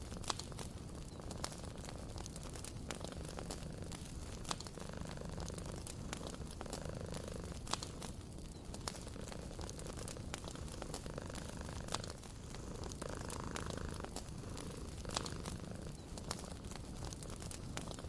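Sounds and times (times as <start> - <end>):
cat purring: 0.0 - 18.0
wood fire crackling and popping: 0.0 - 18.0.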